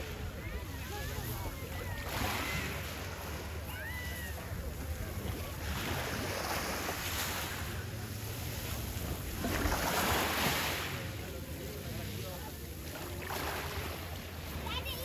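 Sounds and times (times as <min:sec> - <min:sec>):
waves washing on beach: 0:00.0 - 0:15.0.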